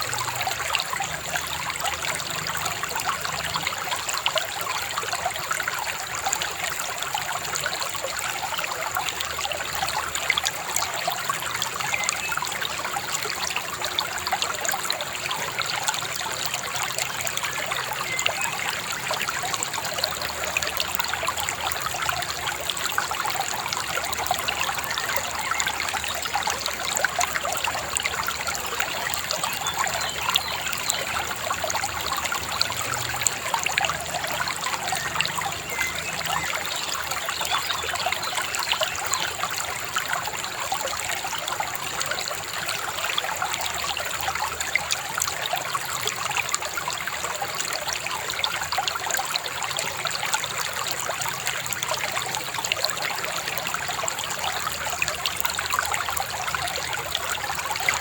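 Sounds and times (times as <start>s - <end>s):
river babbling over stones: 0.0s - 58.0s.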